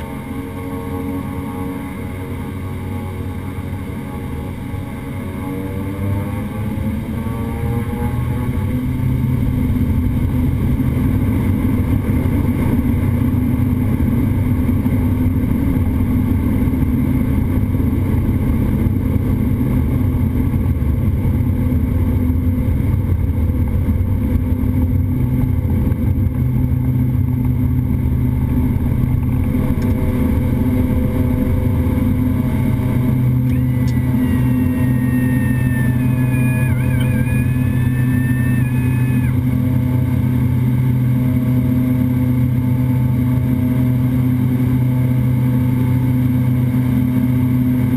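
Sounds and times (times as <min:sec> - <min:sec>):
thin wavering whine: 0:00.0 - 0:25.6, 0:26.2 - 0:47.9
propeller drone: 0:00.0 - 0:47.9.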